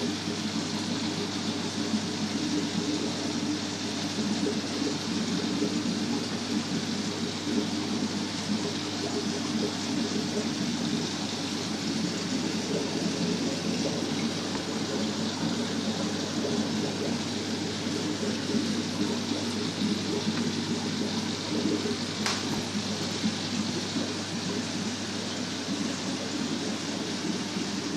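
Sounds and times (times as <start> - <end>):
aquarium water bubbling: 0.0 - 27.9.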